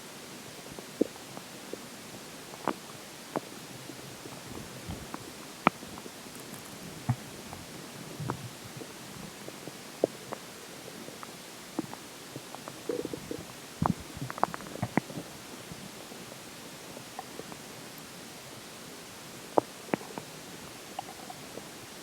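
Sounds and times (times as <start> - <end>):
stomach gurgling: 0.4 - 22.0.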